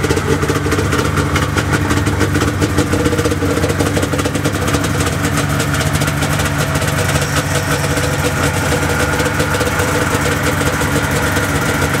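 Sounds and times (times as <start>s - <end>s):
snowmobile engines idling: 0.0s - 12.0s.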